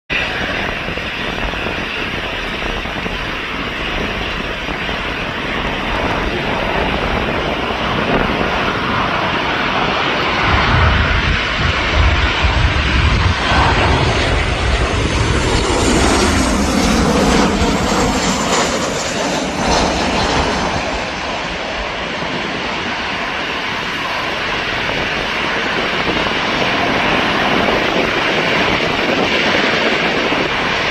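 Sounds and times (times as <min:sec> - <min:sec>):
jet engines on landing: 0:00.1 - 0:30.9.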